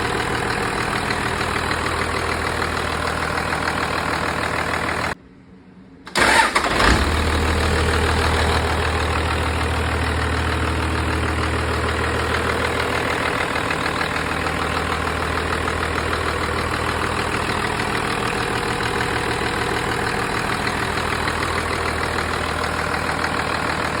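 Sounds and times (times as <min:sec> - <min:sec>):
diesel engine cranking and firing: 0:00.0 - 0:05.2, 0:06.1 - 0:24.0
diesel engine idling: 0:00.0 - 0:05.2, 0:06.2 - 0:24.0.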